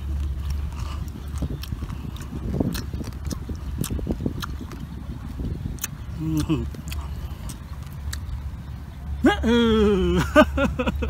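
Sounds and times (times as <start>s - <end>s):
wet chewing and mouth clicks: 0.0s - 9.1s
low steady rumble: 0.0s - 11.0s.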